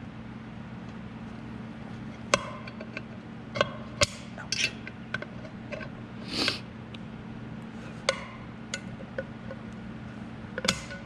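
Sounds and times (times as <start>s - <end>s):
low shop hum: 0.0s - 11.0s.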